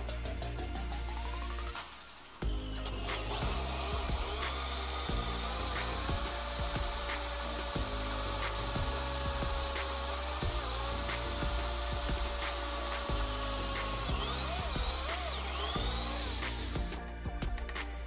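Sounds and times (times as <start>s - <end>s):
electric drill drilling into steel: 0.1s - 17.1s.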